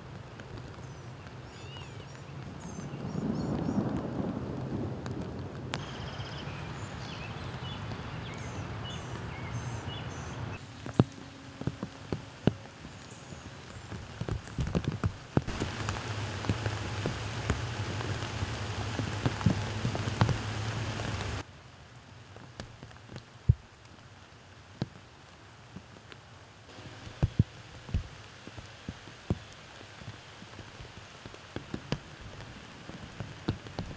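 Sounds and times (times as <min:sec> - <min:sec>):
rain falling on leaves and grass: 0:00.0 - 0:33.9
raindrops tapping close by: 0:00.0 - 0:33.9.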